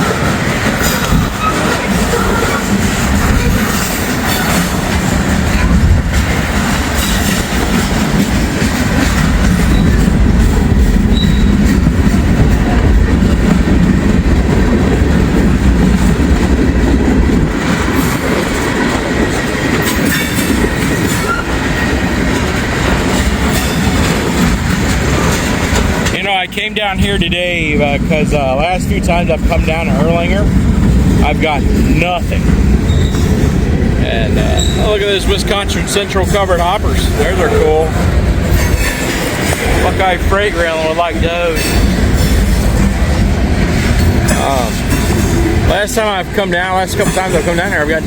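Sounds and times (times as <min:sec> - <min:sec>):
train wheels rumbling on rails: 0:00.0 - 0:48.0
wind hitting microphone: 0:00.0 - 0:48.0.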